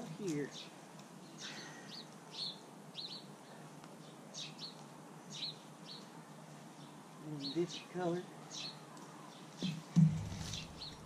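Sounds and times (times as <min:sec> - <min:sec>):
faint background noise: 0:00.0 - 0:11.0
small birds chirping: 0:00.0 - 0:11.0.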